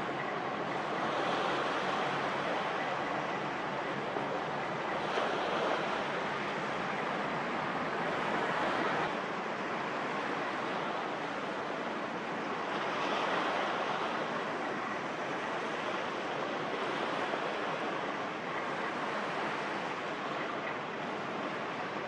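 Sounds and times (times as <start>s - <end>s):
harbour water rushing: 0.0s - 22.0s
wind: 0.0s - 22.0s.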